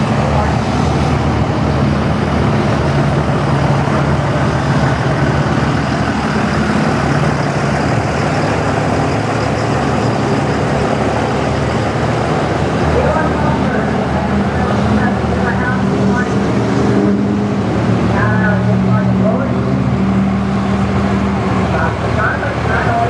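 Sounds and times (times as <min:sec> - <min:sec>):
diesel trucks idling: 0:00.0 - 0:23.0.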